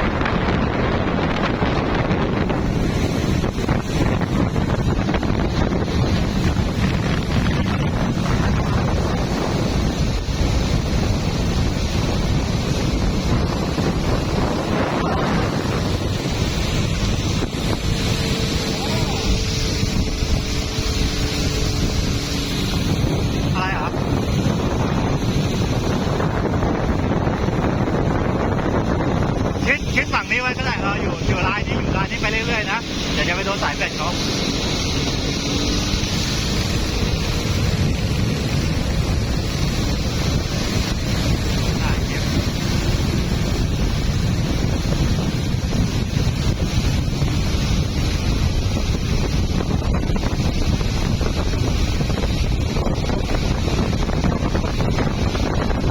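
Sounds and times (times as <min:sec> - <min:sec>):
boat engine running: 0:00.0 - 0:55.9
water rushing along hull: 0:00.0 - 0:55.9
wind rumble on microphone: 0:00.0 - 0:55.9.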